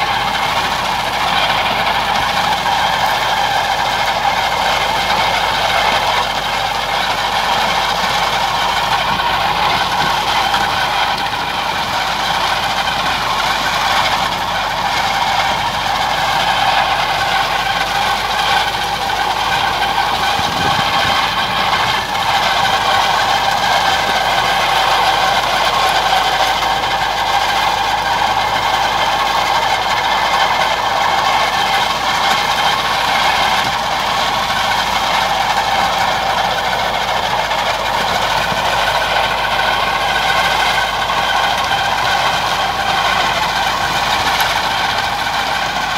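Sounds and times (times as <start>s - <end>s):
manure spreader flinging manure: 0.0s - 45.9s
tractor engine running: 0.0s - 45.9s.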